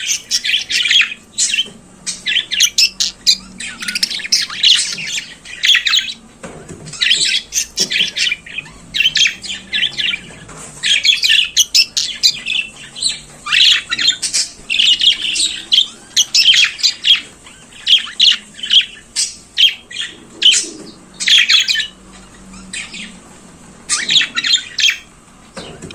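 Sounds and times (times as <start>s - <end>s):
budgerigar chirping and warbling: 0.0s - 6.2s, 6.9s - 25.2s.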